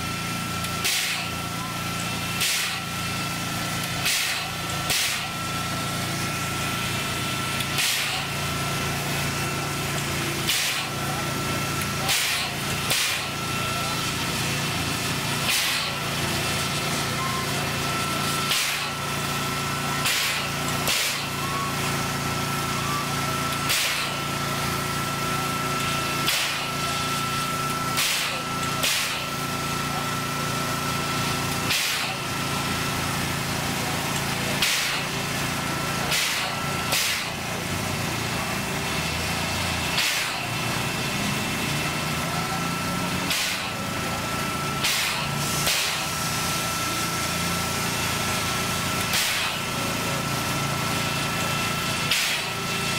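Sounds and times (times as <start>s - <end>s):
steam locomotive machinery hum: 0.0s - 52.9s.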